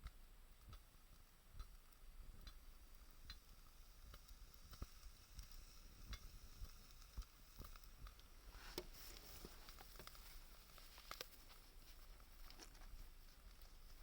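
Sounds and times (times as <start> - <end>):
fire low hiss: 0.0 - 14.0
wood fire crackling: 0.0 - 14.0.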